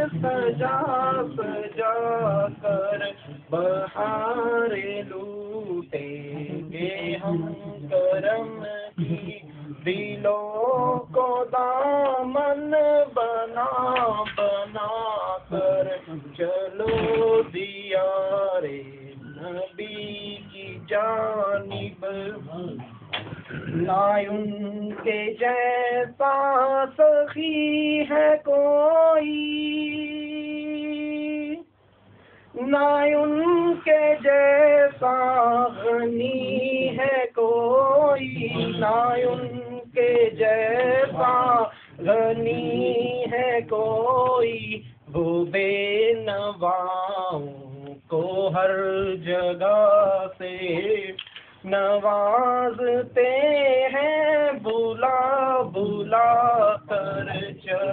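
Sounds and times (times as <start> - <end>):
person singing devotional song: 0.0 - 31.7, 32.5 - 57.9.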